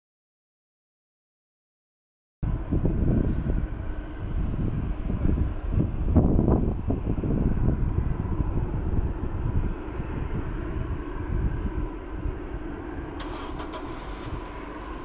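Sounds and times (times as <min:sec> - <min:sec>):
jet engines rumbling with whine: 0:02.4 - 0:15.0.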